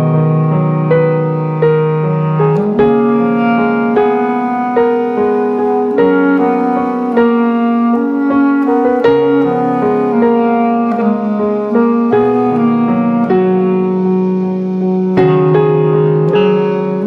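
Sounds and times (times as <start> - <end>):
piano playing sustained chords: 0.0 - 17.0.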